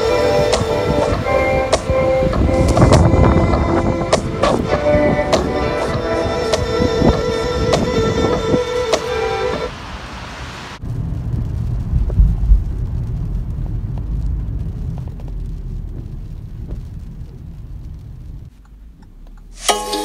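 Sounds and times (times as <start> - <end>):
car driving rumble: 0.0 - 19.7.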